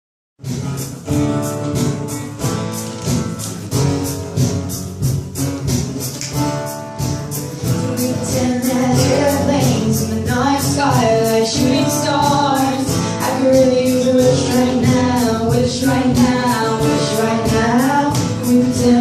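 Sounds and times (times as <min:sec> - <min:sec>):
strummed acoustic guitar: 0:00.4 - 0:19.0.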